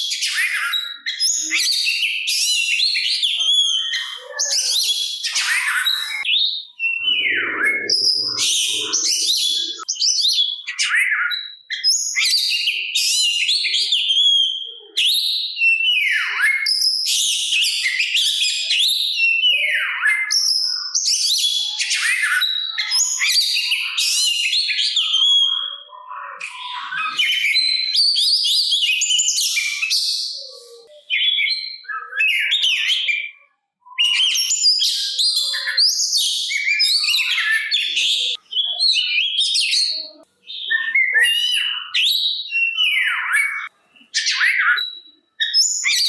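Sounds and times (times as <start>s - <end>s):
bird singing whistles and chatters: 0.1s - 46.0s.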